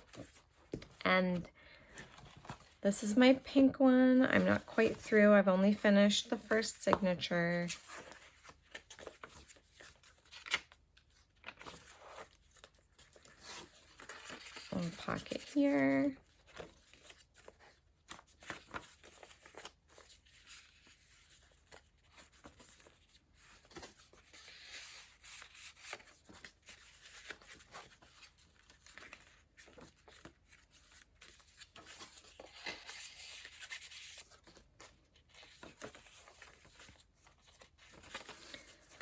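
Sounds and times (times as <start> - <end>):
paper pages rustling: 0.0 - 1.0, 1.6 - 39.0.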